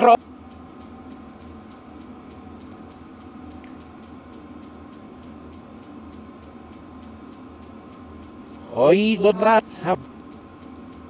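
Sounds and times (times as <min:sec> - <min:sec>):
fuel pump ticking: 0:00.0 - 0:11.0
heater low hum: 0:00.0 - 0:11.0.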